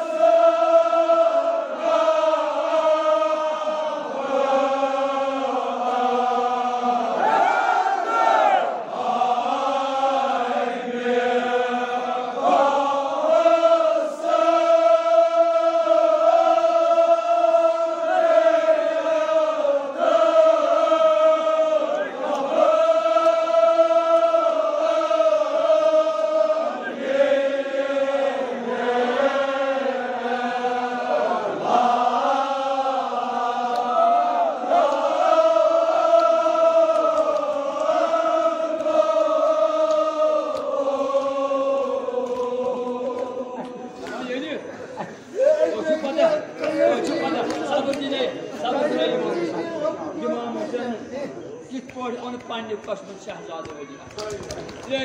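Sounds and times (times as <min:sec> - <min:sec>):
men chanting in unison: 0:00.0 - 0:53.2.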